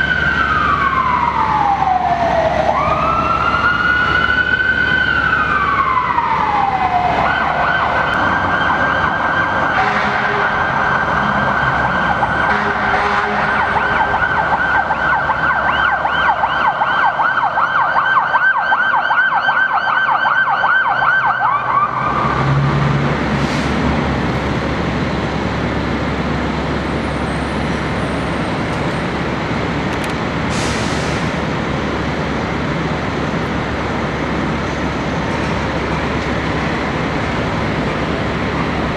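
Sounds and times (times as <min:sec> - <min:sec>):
fire engine siren: 0:00.0 - 0:23.6, 0:24.2 - 0:38.9
idling engines and traffic rumble: 0:00.0 - 0:38.9.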